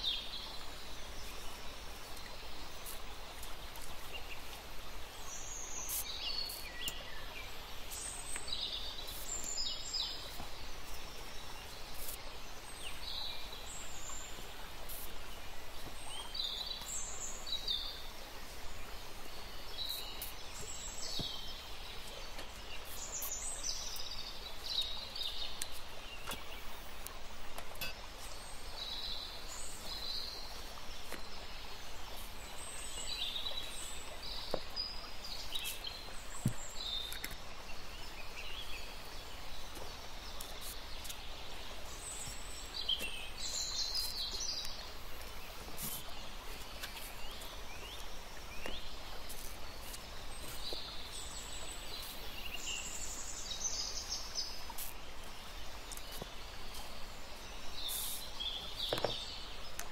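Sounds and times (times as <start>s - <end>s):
small birds chirping: 0.0s - 59.9s
steady background hiss: 0.0s - 59.9s.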